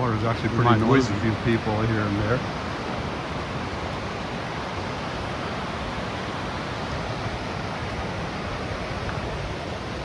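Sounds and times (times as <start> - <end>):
white-water rapids roaring: 0.0 - 10.0.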